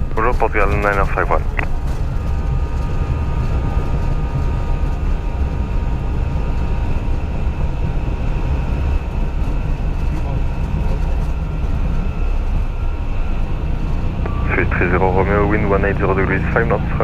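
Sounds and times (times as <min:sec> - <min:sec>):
faint engine whine: 0:00.0 - 0:17.0
jet engine rumble: 0:00.0 - 0:17.0.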